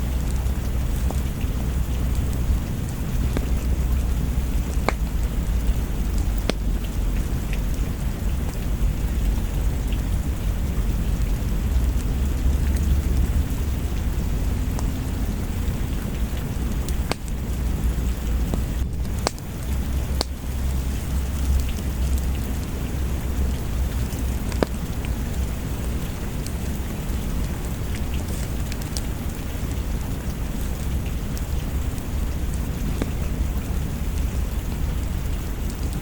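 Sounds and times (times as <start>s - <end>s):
deep rumble: 0.0s - 36.0s
steady rain: 0.0s - 36.0s
wood fire crackling: 0.0s - 36.0s.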